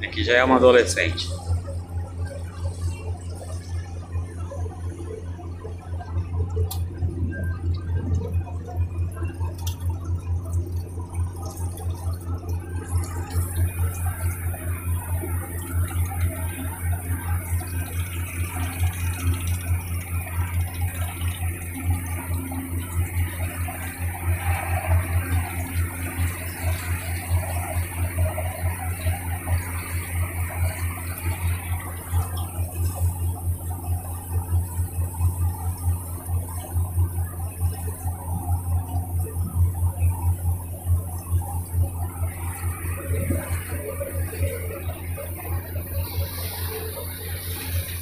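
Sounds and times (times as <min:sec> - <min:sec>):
boat engine throbbing: 0:00.0 - 0:48.0.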